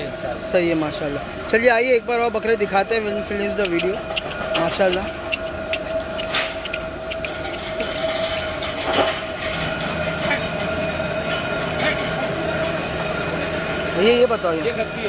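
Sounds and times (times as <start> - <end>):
high mechanical whine: 0.0 - 15.0.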